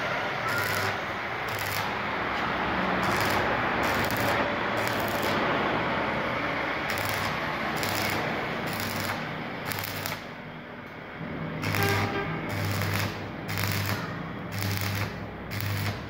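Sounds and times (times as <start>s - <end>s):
welding arc crackling and hissing: 0.4s - 5.5s, 6.8s - 10.3s, 11.6s - 16.0s.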